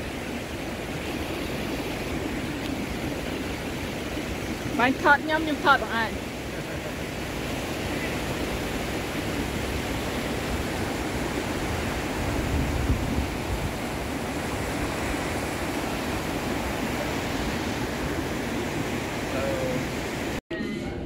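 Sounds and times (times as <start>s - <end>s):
waterfall roaring: 0.0s - 20.4s.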